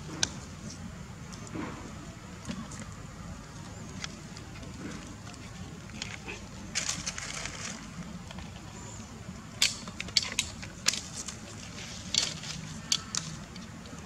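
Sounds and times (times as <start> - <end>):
dry leaves crackling underfoot: 0.3 - 8.8, 9.5 - 14.0.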